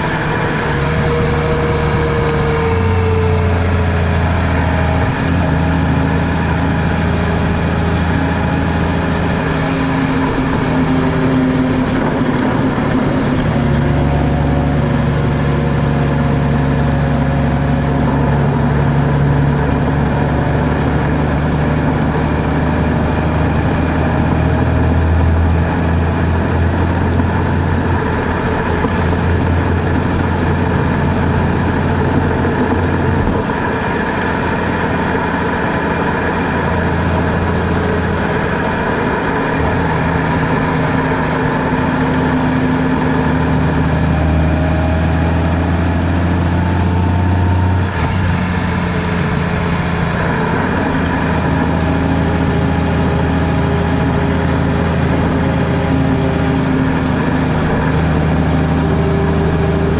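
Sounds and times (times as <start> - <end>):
car engine: 0.0 - 59.9
road noise: 0.0 - 59.9.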